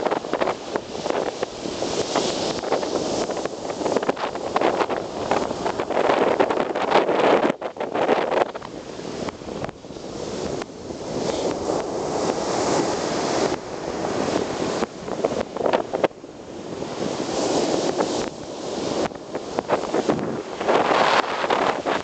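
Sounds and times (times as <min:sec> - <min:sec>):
waves breaking on beach: 0:00.0 - 0:22.0
wind buffeting microphone: 0:00.0 - 0:22.0.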